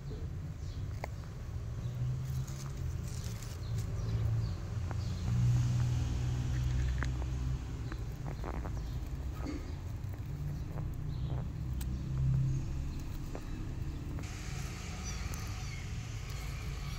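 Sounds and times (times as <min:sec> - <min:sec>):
vehicle engine running: 0:00.7 - 0:16.9.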